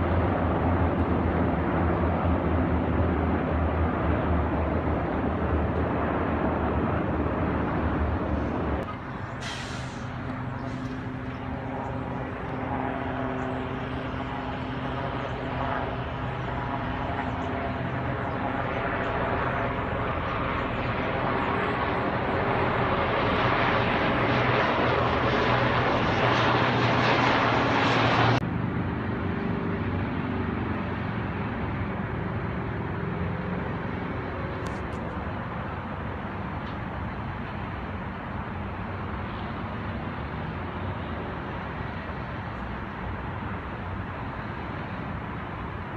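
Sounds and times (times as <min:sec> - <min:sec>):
helicopter flying past: 0:00.0 - 0:45.9.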